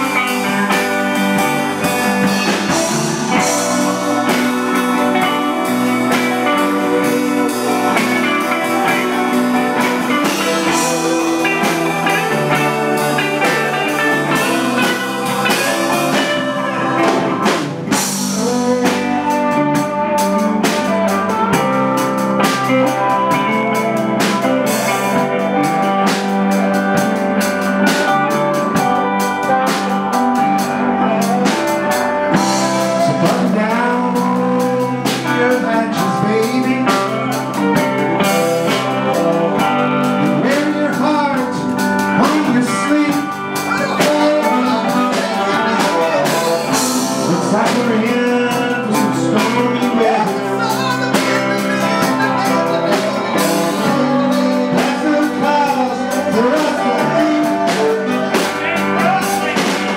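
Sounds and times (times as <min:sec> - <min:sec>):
drum kit: 0:00.0 - 0:59.9
electric guitar lead: 0:00.0 - 0:59.9.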